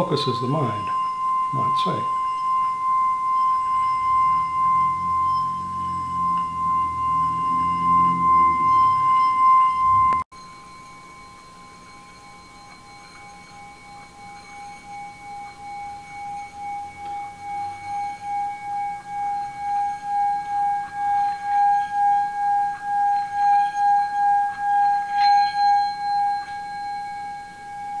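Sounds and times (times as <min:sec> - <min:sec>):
singing bowl ringing: 0:00.0 - 0:28.0.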